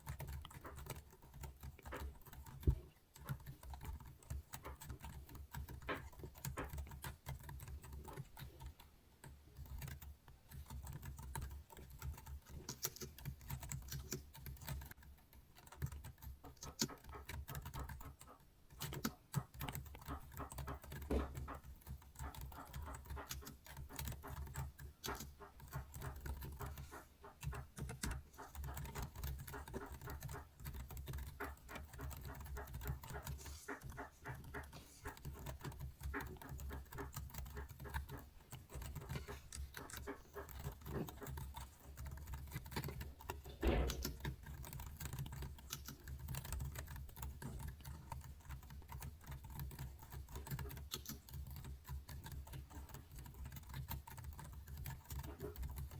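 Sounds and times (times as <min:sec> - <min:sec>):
keyboard typing: 0:00.0 - 0:55.9.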